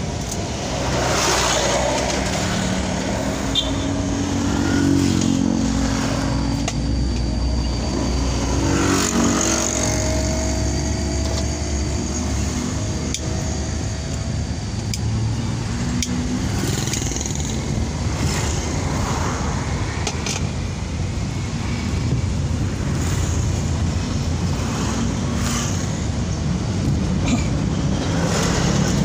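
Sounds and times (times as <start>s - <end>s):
car engine drone with road rumble: 0.0s - 29.0s
motorcycles passing: 0.0s - 29.0s.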